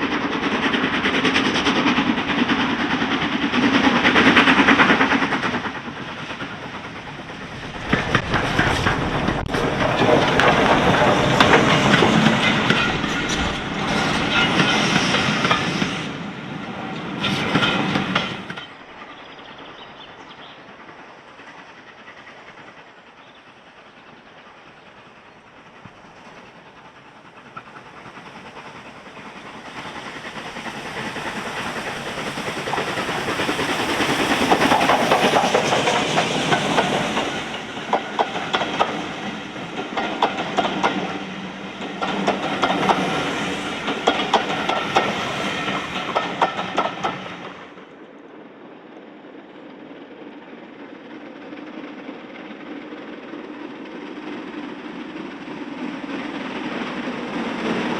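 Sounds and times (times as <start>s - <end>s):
train wheels clattering over rail joints: 0.0s - 47.9s
train approaching: 0.0s - 57.9s.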